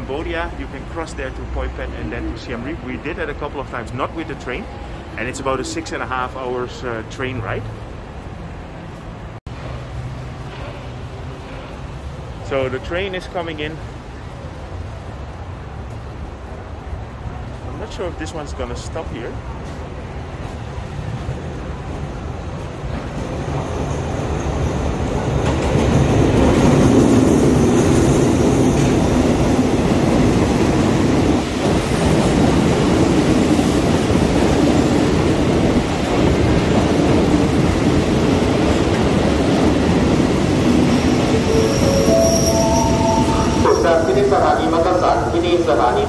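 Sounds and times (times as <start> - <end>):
passenger train rolling past: 0.0 - 46.0.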